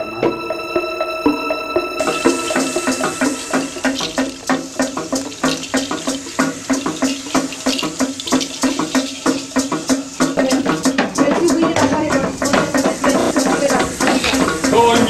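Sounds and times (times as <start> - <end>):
rattling shaker percussion: 2.0 - 15.0.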